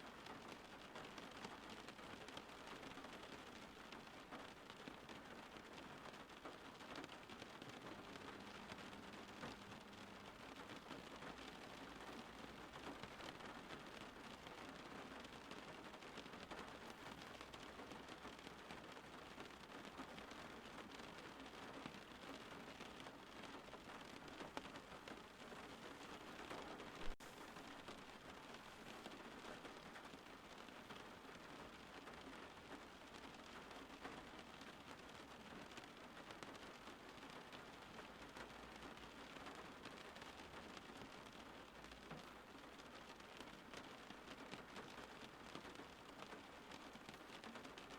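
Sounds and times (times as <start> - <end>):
faint rain falling: 0.0 - 47.9.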